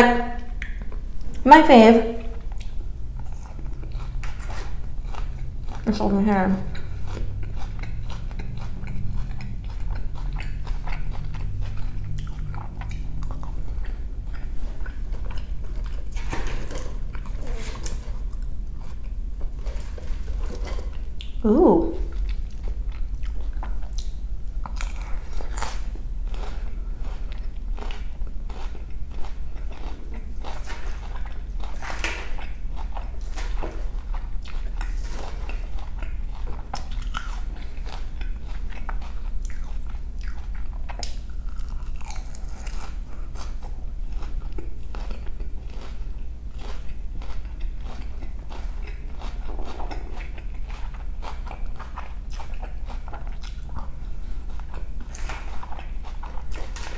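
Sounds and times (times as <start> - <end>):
chewing crisp lettuce: 2.1 - 56.9.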